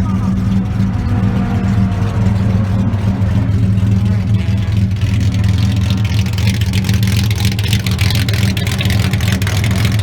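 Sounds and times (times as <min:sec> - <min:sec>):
car engine and loud exhaust: 0:00.0 - 0:10.0
exhaust crackle: 0:00.0 - 0:10.0.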